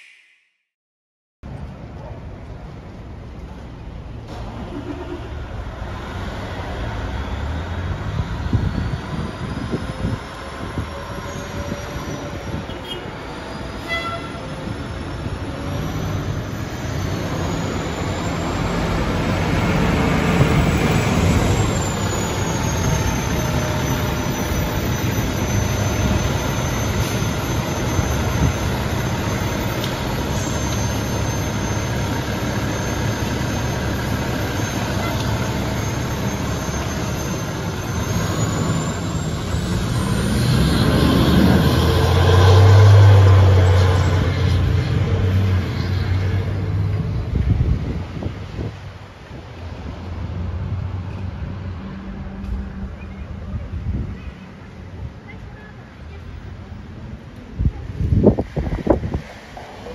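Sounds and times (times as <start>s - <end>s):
truck engine and road rumble: 1.4s - 59.9s.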